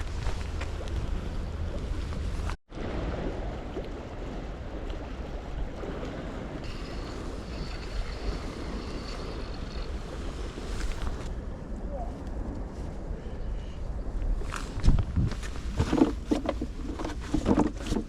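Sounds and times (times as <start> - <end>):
seaside ambience: 0.0 - 18.0
wind on microphone: 0.0 - 18.0.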